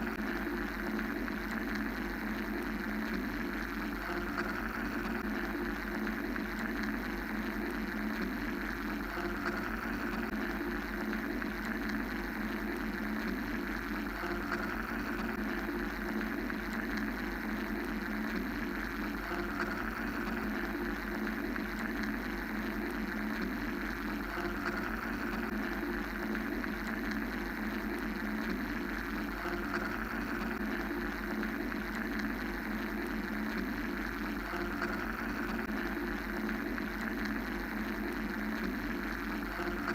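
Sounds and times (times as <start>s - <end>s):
white noise hum and hiss: 0.0s - 39.9s.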